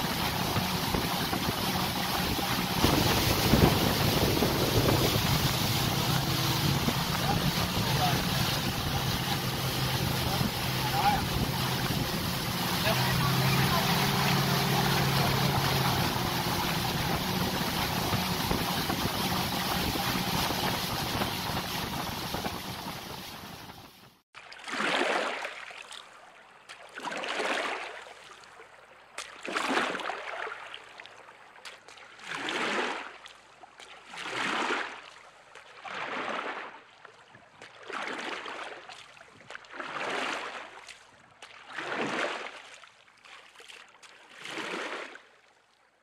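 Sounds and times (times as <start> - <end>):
paddle strokes splashing water: 0.0 - 46.0.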